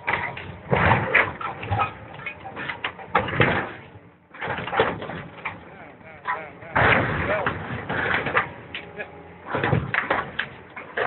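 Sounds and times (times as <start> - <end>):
metal crunching: 0.0 - 11.0.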